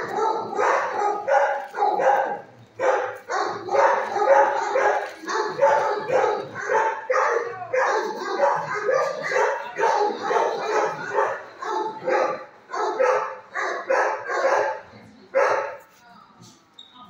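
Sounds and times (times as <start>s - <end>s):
dogs barking: 0.0s - 15.8s.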